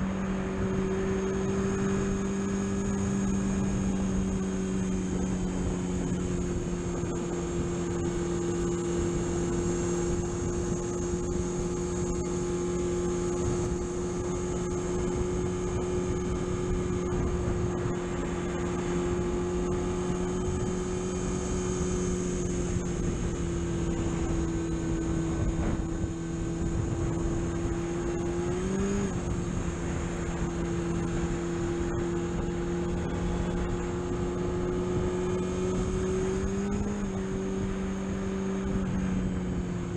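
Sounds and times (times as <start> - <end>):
car engine droning: 0.0 - 39.9
road and wind noise: 0.0 - 39.9.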